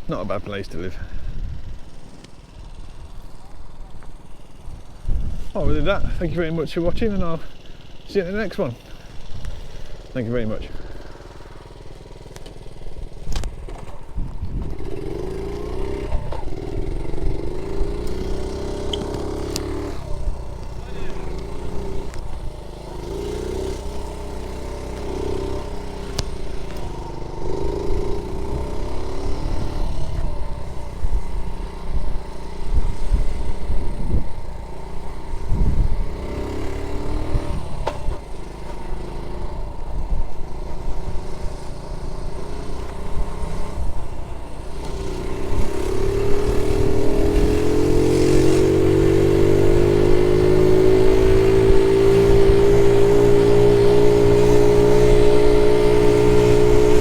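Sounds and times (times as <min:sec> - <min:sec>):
small motorbike engine revving: 0:00.0 - 0:57.0.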